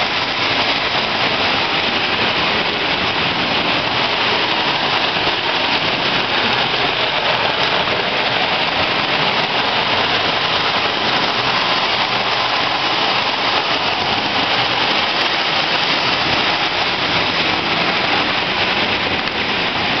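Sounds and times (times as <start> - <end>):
toy train wheels rattling on rails: 0.0 - 20.0.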